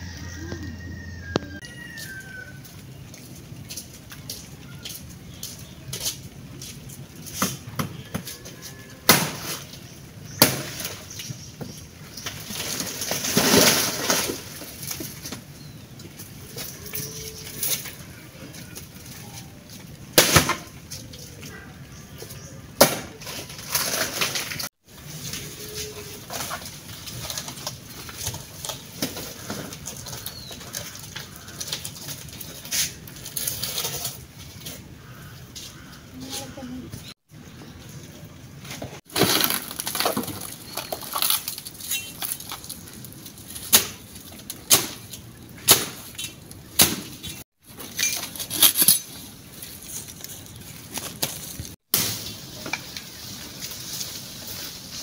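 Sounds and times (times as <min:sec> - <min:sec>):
dry leaves rustling and crackling: 0:00.0 - 0:55.0.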